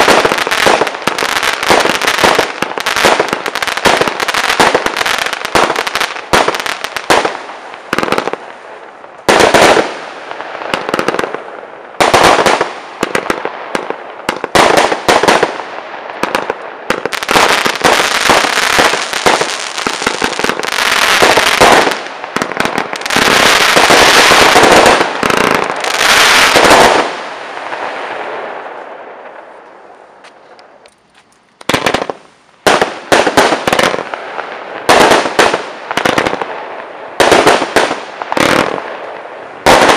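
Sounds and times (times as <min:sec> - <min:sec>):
firework bangs and crackle: 0:00.0 - 0:30.9, 0:31.6 - 0:39.9.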